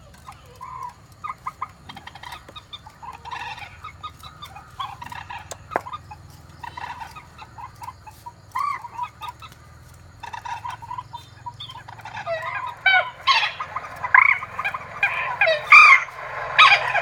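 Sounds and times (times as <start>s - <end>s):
recorded bird clucking calls: 0.0s - 17.0s.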